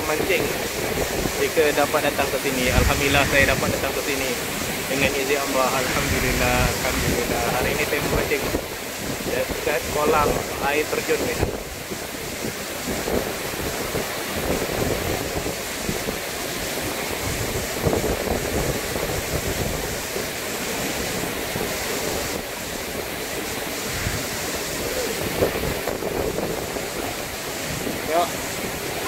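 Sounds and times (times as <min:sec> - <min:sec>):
waterfall rushing: 0:00.0 - 0:29.0
wind buffeting microphone: 0:00.0 - 0:29.0.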